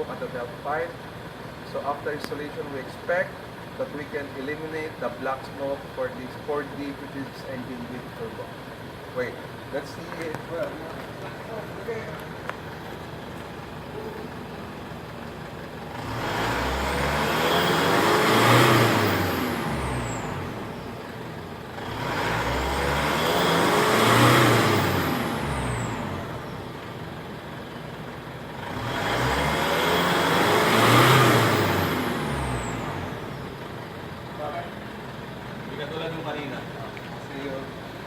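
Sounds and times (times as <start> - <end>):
diesel engine revving: 0.0 - 38.0
high turbo whine: 0.0 - 38.0.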